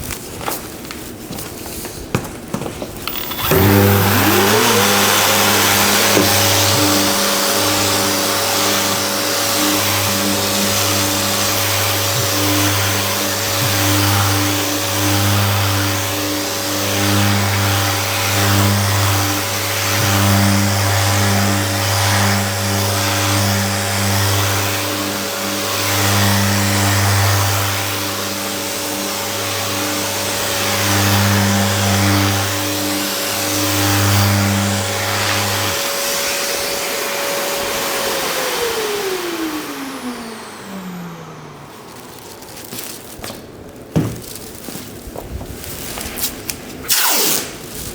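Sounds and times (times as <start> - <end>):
electric motor whining: 3.0 - 43.4.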